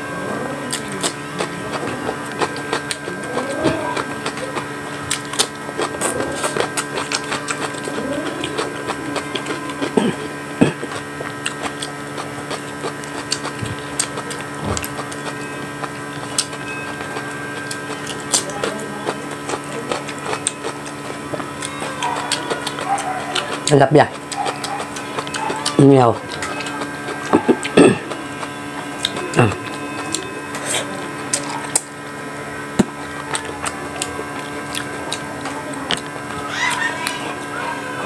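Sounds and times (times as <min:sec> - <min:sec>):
steady electrical hum: 0:00.0 - 0:38.0
chewing and lip smacks: 0:00.7 - 0:32.0, 0:32.8 - 0:37.6.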